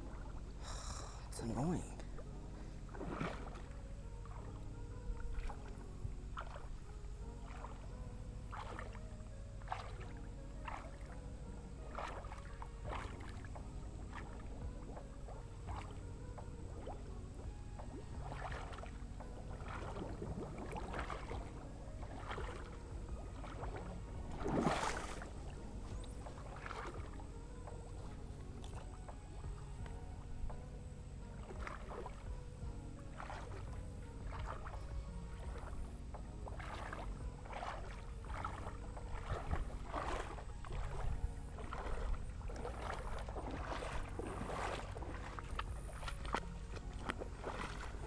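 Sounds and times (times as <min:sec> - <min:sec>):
steady low rumble: 0:00.0 - 0:48.0
water sloshing and splashing: 0:00.0 - 0:48.0.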